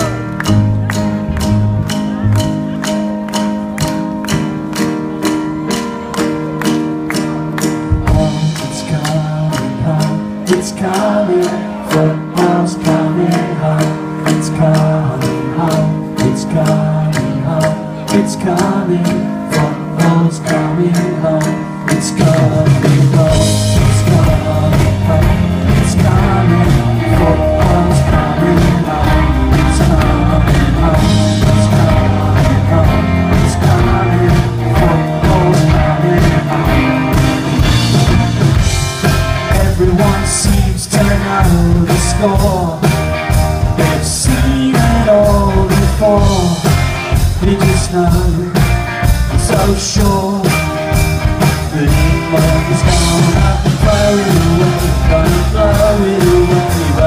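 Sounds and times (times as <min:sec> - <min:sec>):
live rock band playing: 0:00.0 - 0:57.0
person singing: 0:07.4 - 0:57.0.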